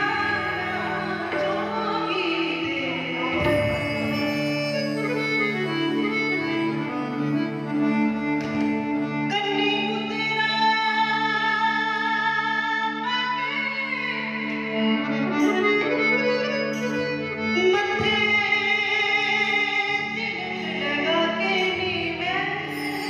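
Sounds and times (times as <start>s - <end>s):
woman singing into a microphone: 0.0s - 8.4s, 9.0s - 23.0s.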